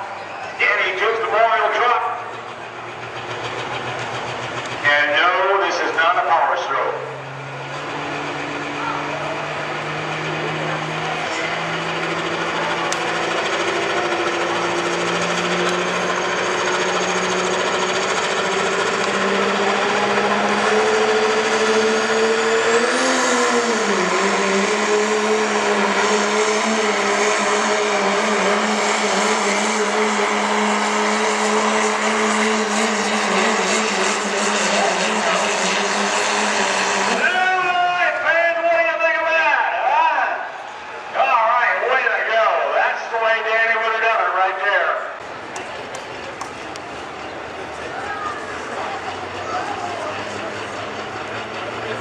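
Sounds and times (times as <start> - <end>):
diesel truck engine under load: 0.0 - 52.0.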